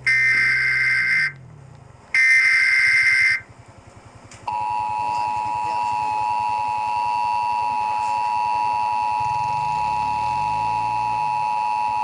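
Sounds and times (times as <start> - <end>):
two-tone alarm: 0.0 - 1.4, 2.2 - 3.5, 4.5 - 12.0.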